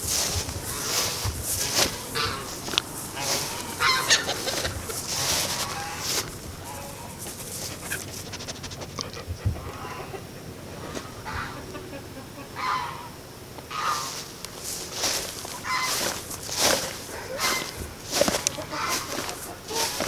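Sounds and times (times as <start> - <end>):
short chicken calls: 0.0 - 9.0, 12.6 - 20.0
chickens clucking: 0.0 - 20.0.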